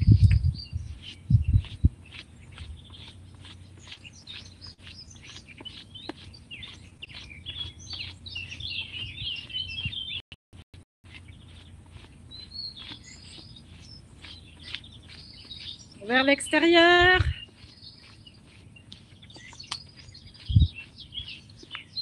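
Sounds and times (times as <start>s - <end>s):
birds chirping and singing: 0.0s - 10.2s, 11.1s - 22.0s.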